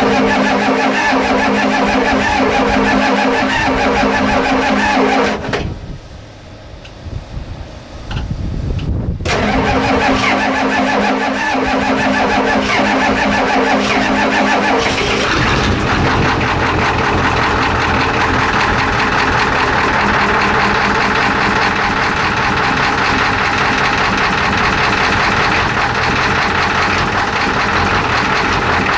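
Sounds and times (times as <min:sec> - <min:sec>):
diesel engine clatter idling: 0:00.0 - 0:28.9
diesel engine starting: 0:00.0 - 0:28.9.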